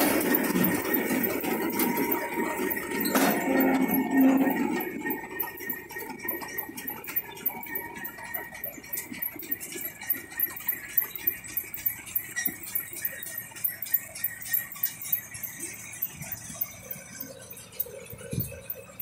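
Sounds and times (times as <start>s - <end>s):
metallic clicking and rattling: 0.0s - 19.0s.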